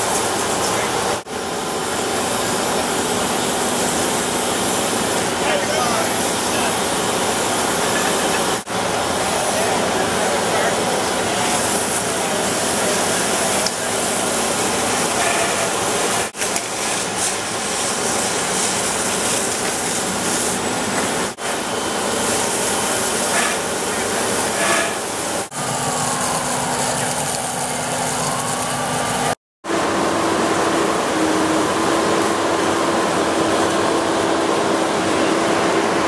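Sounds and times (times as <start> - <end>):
hose spraying water hiss: 0.0 - 29.3.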